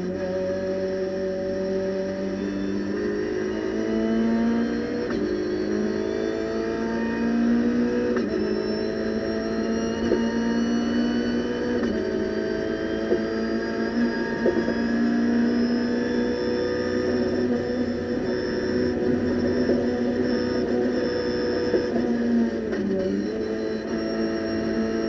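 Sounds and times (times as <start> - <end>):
race car engine at full throttle: 0.0 - 25.0.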